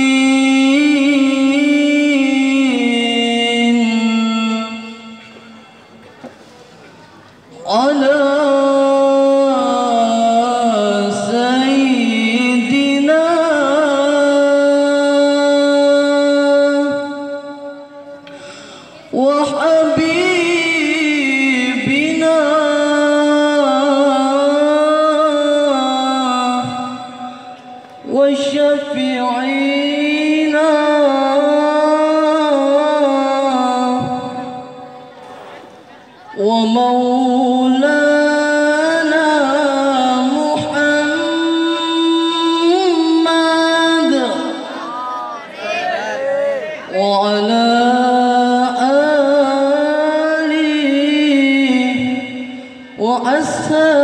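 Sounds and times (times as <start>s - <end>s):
person singing unaccompanied: 0.0s - 5.8s, 7.5s - 18.3s, 19.0s - 35.1s, 36.3s - 54.0s.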